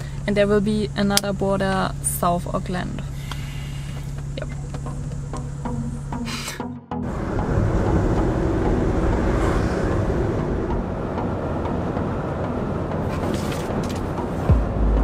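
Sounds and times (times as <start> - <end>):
road rumble inside moving van: 0.0 - 15.0.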